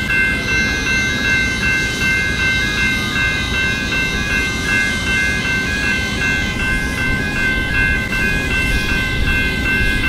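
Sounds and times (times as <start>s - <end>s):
level crossing bells ringing: 0.0s - 10.0s.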